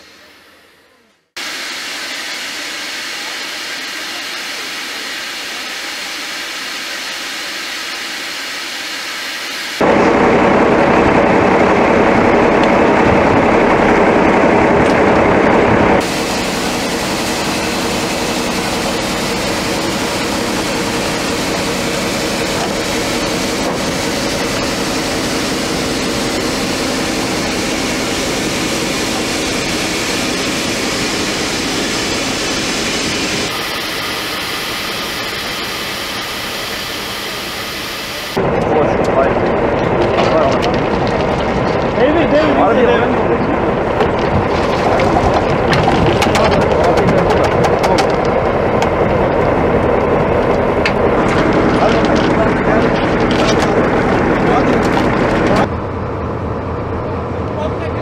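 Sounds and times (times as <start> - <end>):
loud rushing noise: 1.3 - 57.2
heavy engine running: 9.8 - 58.0.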